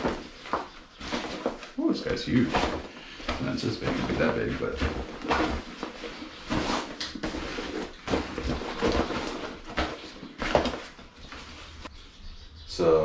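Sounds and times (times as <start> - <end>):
fabric bag rustling: 0.0 - 11.9.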